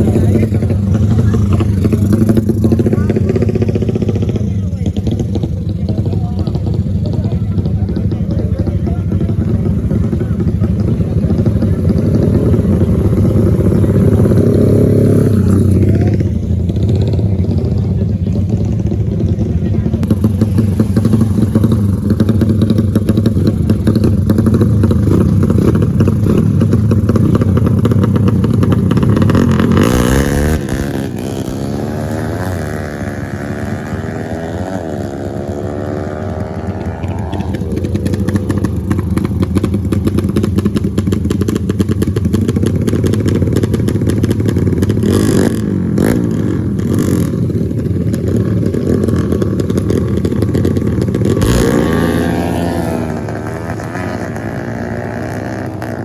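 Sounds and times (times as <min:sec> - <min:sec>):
motorcycle engine revving up: 0:00.0 - 0:56.0
racing motorcycle engines: 0:00.0 - 0:56.0.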